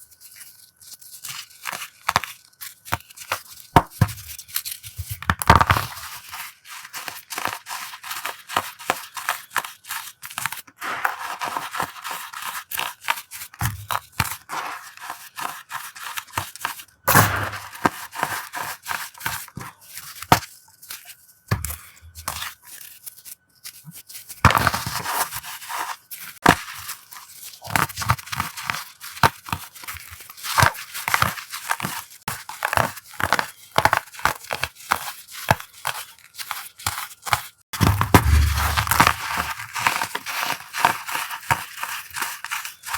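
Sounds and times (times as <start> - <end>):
chalk being crushed by hand: 0.0 - 42.9.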